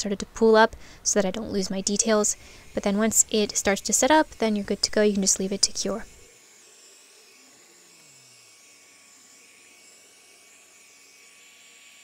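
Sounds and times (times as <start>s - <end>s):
heat gun fan whirring: 0.0s - 12.0s.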